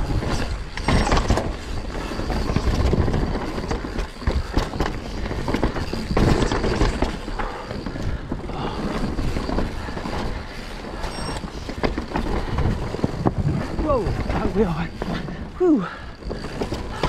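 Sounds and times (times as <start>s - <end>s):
bike knocking and rattling: 0.0s - 17.0s
bike tyre noise on dirt: 0.0s - 17.0s.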